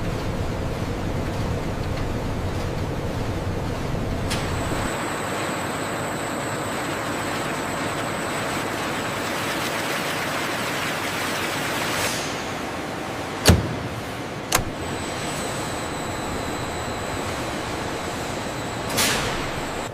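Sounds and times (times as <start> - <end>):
factory machinery rushing noise: 0.0 - 19.9.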